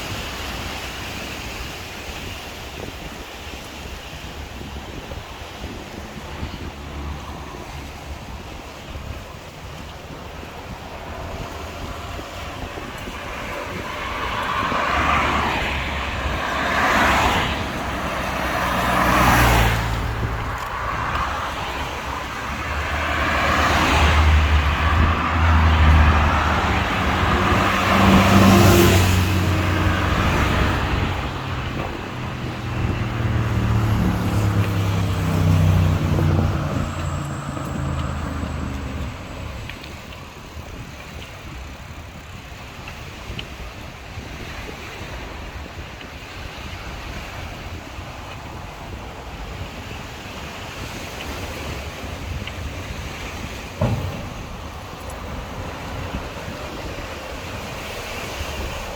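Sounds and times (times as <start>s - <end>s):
cars swishing past: 0.0s - 58.9s
vehicles passing by: 0.0s - 58.9s.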